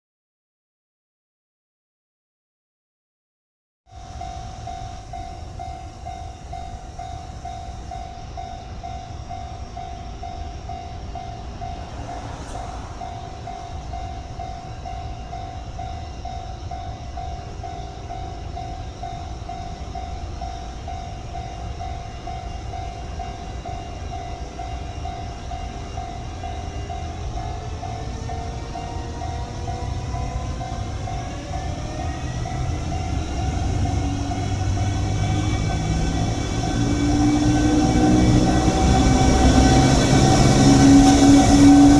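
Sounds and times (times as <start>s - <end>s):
pulsing tone: 3.9s - 41.9s
freight train rumbling: 4.0s - 41.9s.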